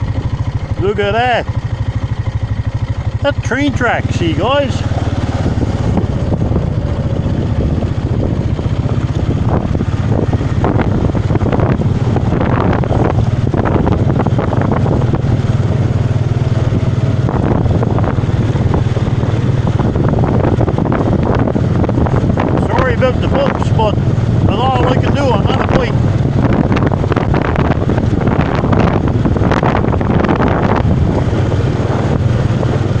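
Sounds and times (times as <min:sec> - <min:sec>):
motorbike engine running: 0:00.0 - 0:33.0
wind buffeting microphone: 0:00.0 - 0:33.0.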